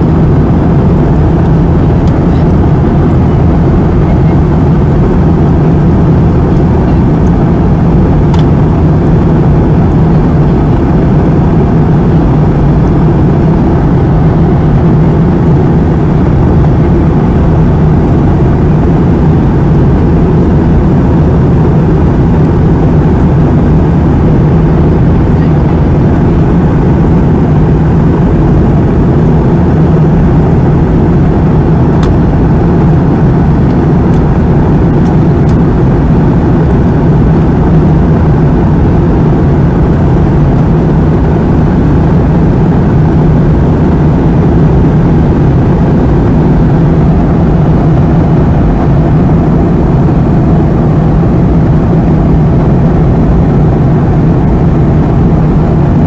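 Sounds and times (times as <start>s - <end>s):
airflow rush in aircraft cabin: 0.0s - 56.0s
jet engine drone: 0.0s - 56.0s.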